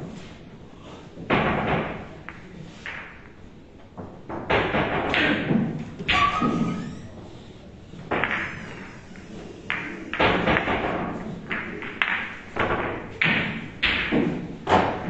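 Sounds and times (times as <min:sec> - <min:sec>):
billiard balls clacking: 0:01.0 - 0:15.0.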